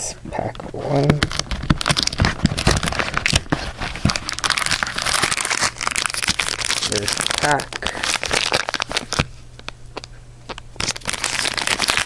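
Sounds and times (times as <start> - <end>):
foil pack tearing and crinkling: 1.0 - 9.3, 10.5 - 12.0.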